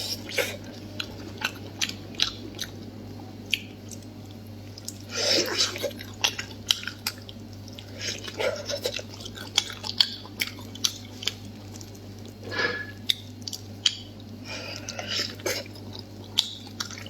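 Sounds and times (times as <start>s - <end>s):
wet chewing: 0.0s - 17.0s.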